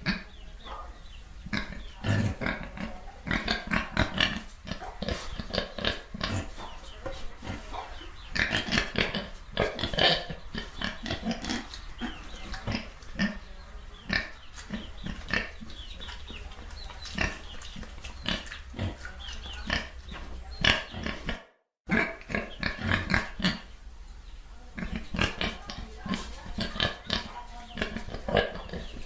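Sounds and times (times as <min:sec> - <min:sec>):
pigs grunting and oinking: 0:01.4 - 0:23.7, 0:24.7 - 0:29.0.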